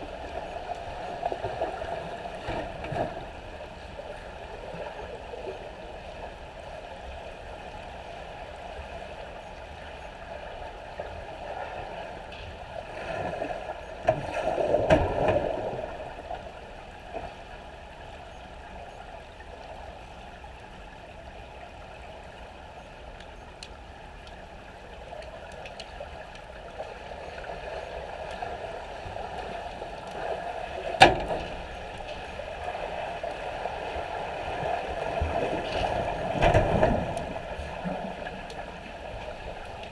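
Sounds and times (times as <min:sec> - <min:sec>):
muffled underwater swimming churn: 0:00.0 - 0:39.9.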